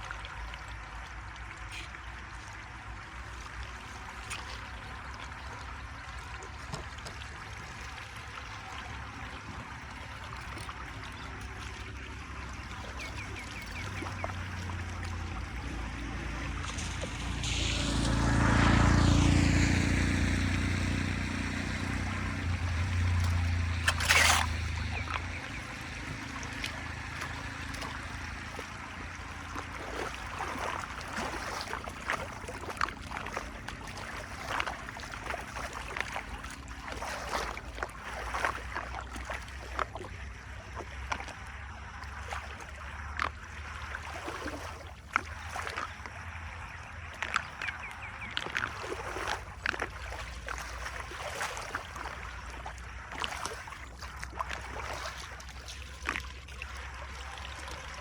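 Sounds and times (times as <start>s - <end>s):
floodwater splashing and gurgling: 0.0s - 58.0s.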